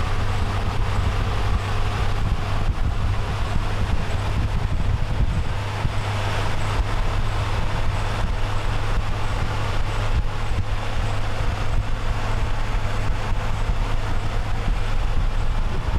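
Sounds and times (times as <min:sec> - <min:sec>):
low vehicle rumble: 0:00.0 - 0:15.9
road noise: 0:00.0 - 0:15.9.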